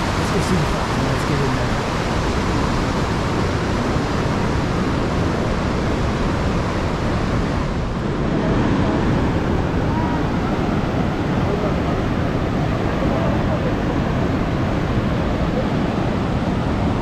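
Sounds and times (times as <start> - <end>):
fast-flowing river: 0.0 - 17.0
waterfall roaring: 0.0 - 17.0.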